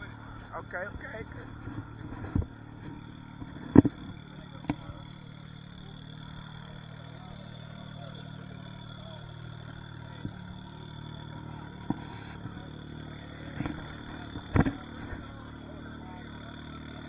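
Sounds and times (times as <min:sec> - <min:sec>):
car engine idling: 0:00.0 - 0:17.0
faint voices: 0:00.0 - 0:17.0.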